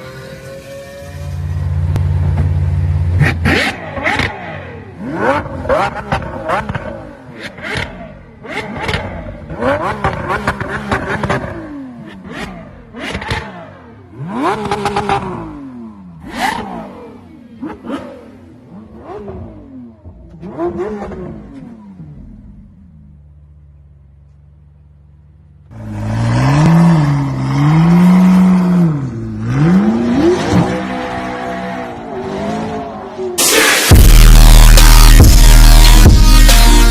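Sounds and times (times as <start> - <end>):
car engine revving: 0.0 - 24.4, 25.2 - 36.9.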